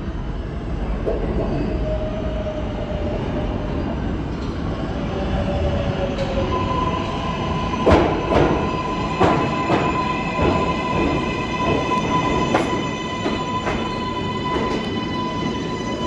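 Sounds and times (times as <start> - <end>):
subway train rumble: 0.0 - 16.0.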